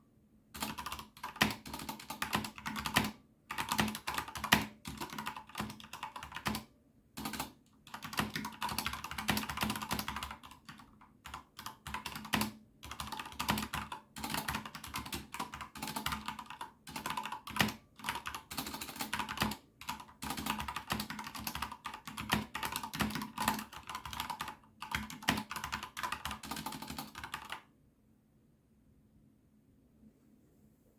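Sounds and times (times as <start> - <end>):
mechanical keyboard typing: 0.6 - 27.6.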